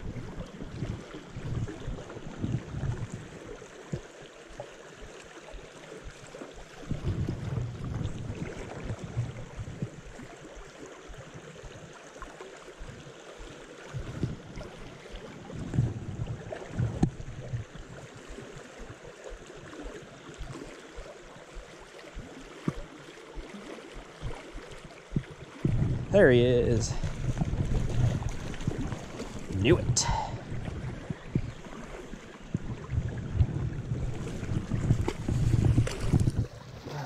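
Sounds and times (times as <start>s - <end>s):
stream flowing: 0.0s - 37.0s.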